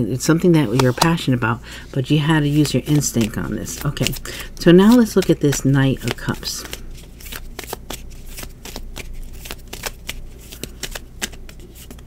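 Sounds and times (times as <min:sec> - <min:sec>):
cards being shuffled: 0:00.6 - 0:01.2, 0:02.2 - 0:12.0.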